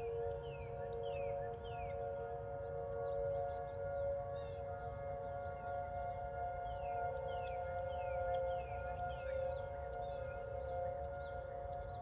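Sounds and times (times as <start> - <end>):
warning siren steady tone: 0.0 - 12.0.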